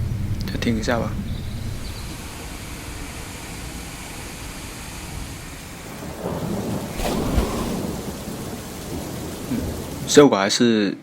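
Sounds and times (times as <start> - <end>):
thunderclap rumbling: 0.0 - 10.1
rain hissing: 0.1 - 10.2.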